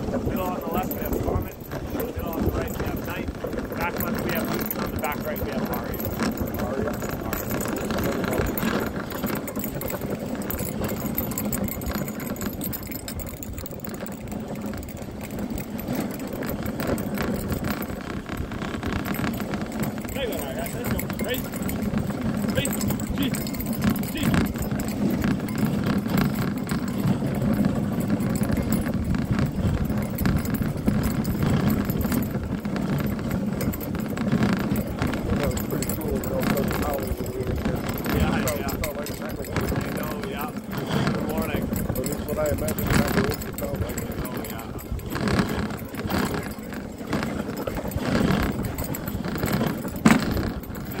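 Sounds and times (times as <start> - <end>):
sled runners scraping snow: 0.0 - 51.0.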